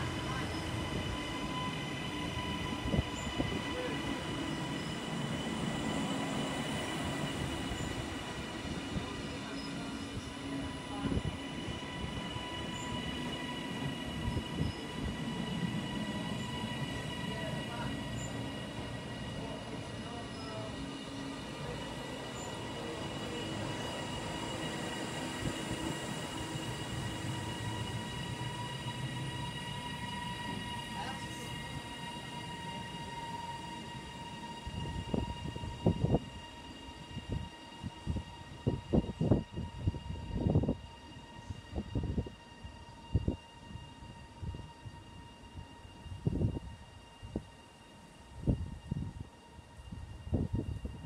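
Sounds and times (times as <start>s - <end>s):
high-pitched train whine: 0.0s - 51.0s
train wheels rumbling on rail: 0.0s - 51.0s.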